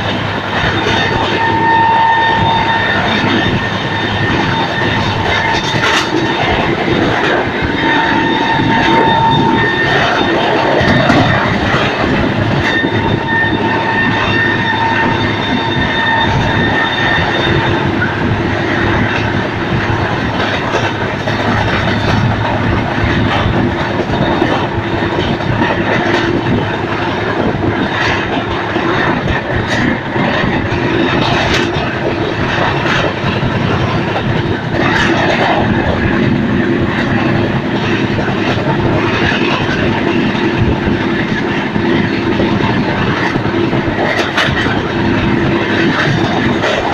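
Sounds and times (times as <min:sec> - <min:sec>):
train wheels rumbling on track: 0:00.0 - 0:46.9.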